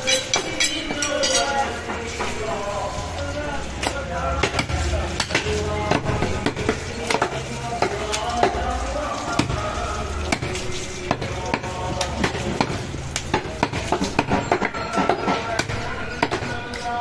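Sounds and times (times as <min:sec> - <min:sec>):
faint background voices: 0:00.0 - 0:17.0.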